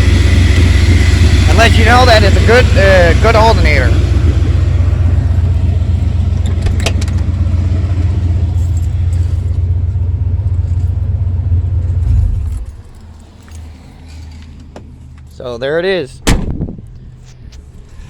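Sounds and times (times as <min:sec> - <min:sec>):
engine shutting off: 0:00.0 - 0:15.3
truck engine idling: 0:00.0 - 0:18.0.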